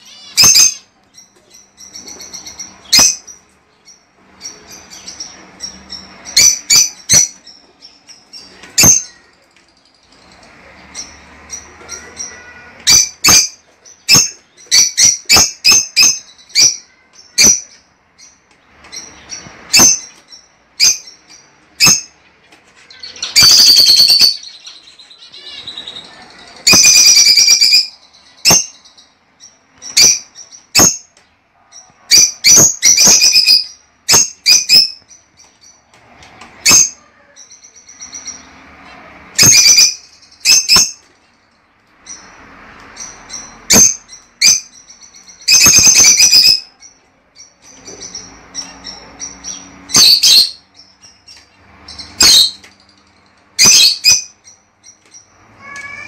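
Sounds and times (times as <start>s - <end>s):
lovebirds chirping: 0.0s - 56.0s
lovebirds rapid chatter: 0.0s - 56.0s.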